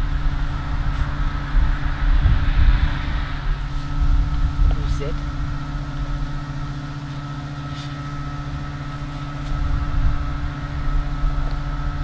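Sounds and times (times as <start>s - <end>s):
low uneven rumble: 0.0s - 12.0s
mechanical hum: 0.0s - 12.0s.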